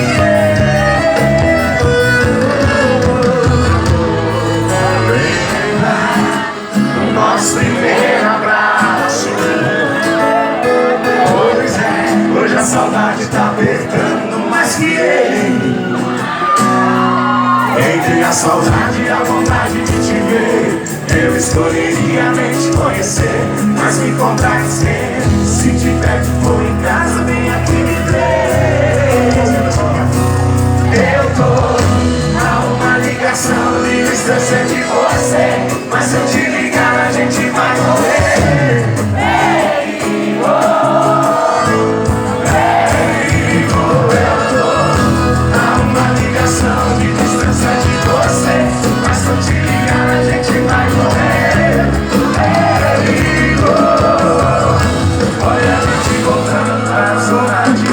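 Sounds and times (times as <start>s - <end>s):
held bass notes: 0.0s - 8.2s, 18.2s - 39.7s, 40.4s - 57.9s
music with singing voice: 0.0s - 57.9s.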